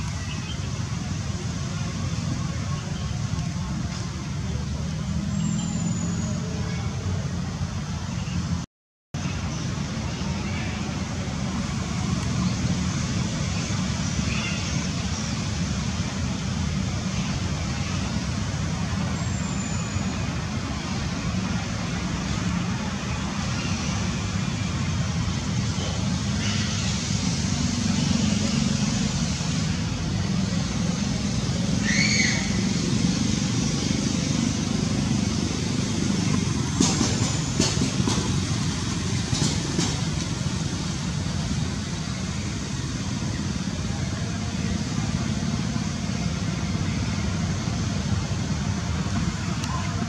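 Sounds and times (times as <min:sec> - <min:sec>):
low rumble of outdoor noise: 0:00.0 - 0:08.6, 0:09.2 - 0:50.0.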